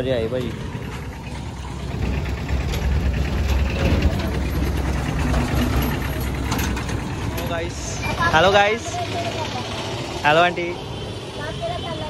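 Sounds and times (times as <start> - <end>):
small truck driving past: 0.0 - 10.4.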